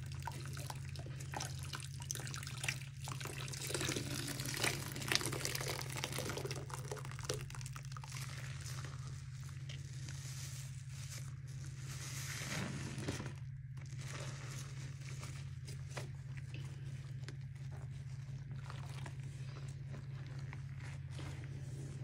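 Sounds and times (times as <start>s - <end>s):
steady low hum: 0.0s - 22.0s
wet sponge squelching: 0.0s - 22.0s.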